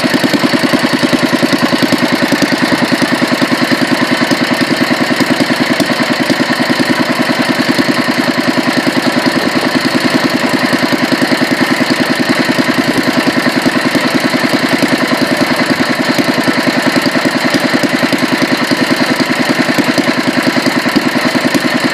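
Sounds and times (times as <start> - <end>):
stationary engine running: 0.0 - 21.9.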